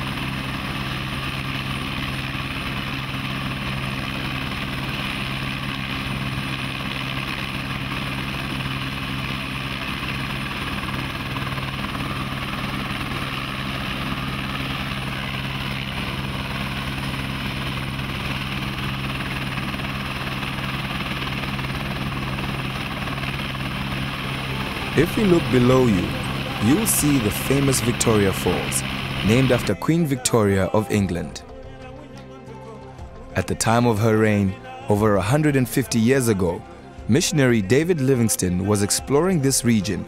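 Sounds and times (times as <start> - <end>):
helicopter rotor and turbine drone: 0.0 - 40.0.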